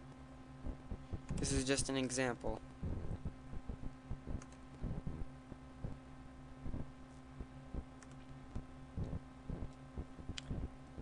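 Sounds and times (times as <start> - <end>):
electrical hum: 0.0 - 11.0
soft low thumps: 0.6 - 1.5, 2.8 - 11.0.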